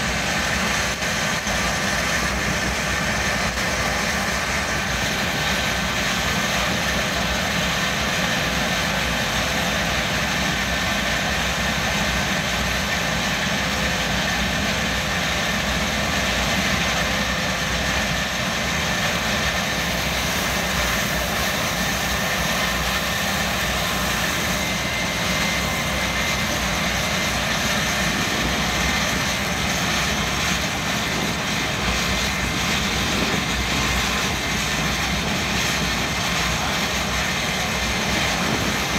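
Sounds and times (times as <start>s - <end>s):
turbojet engine rushing noise: 0.0s - 38.9s.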